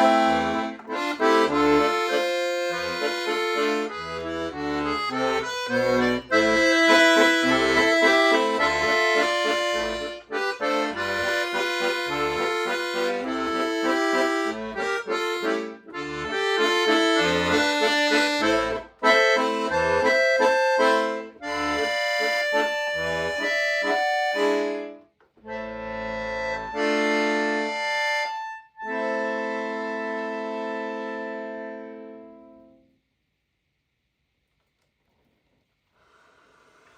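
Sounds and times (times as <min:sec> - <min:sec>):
solo accordion playing: 0:00.0 - 0:32.8.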